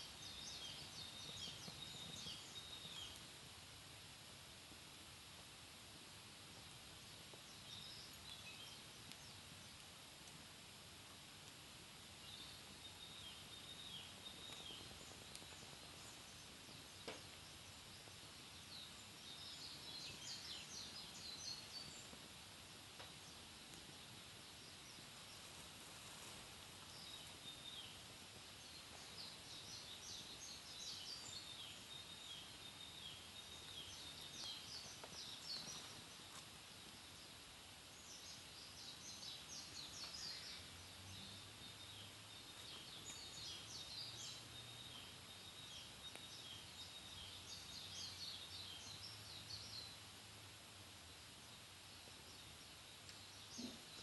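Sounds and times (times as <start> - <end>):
small birds twittering: 0.0 - 54.0
wood fire faint crackles: 0.0 - 54.0.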